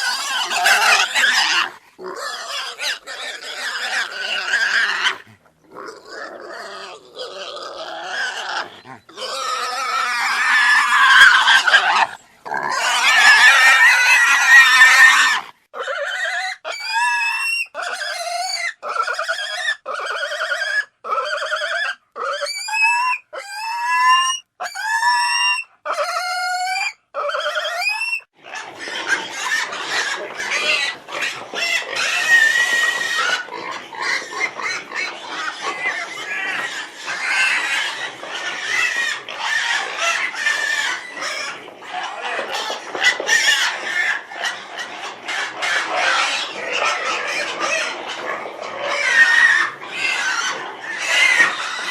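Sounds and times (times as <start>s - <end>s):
pigs squealing: 0.0s - 51.9s.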